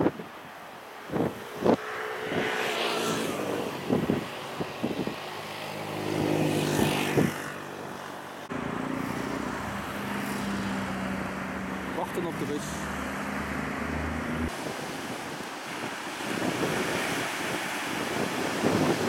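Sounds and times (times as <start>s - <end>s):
engine noise: 0.7s - 19.0s.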